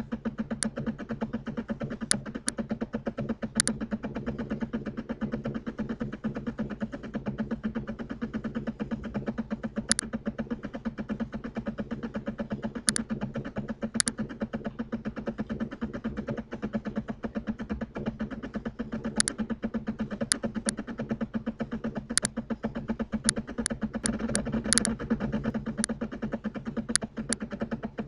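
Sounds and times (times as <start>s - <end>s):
pulsing hum: 0.0s - 28.0s.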